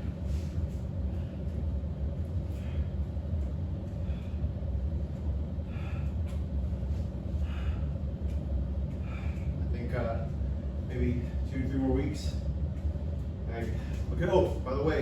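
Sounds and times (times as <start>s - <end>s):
faint hum: 0.0s - 15.0s
steady low rumble: 0.0s - 15.0s.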